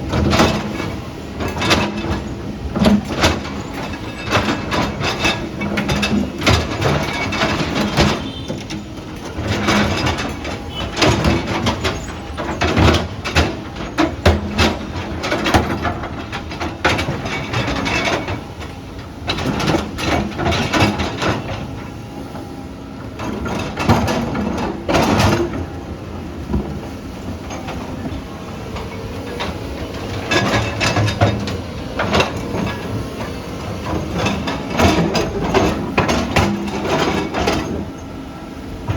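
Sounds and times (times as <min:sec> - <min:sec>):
metal clanking and knocking: 0:00.1 - 0:38.1.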